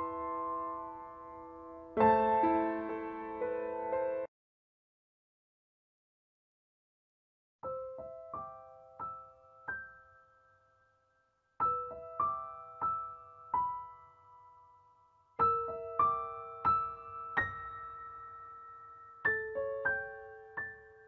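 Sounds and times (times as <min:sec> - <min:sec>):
slow gentle piano melody: 0:00.0 - 0:04.3, 0:07.6 - 0:21.0.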